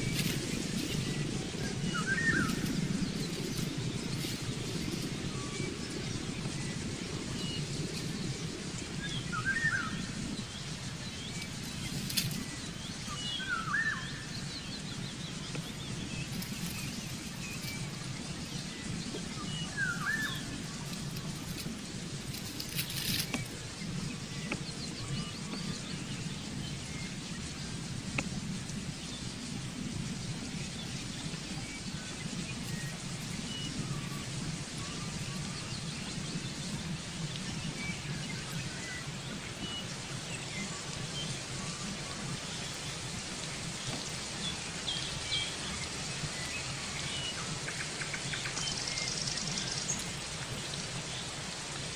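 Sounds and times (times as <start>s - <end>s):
low outdoor background hum: 0.0s - 51.9s.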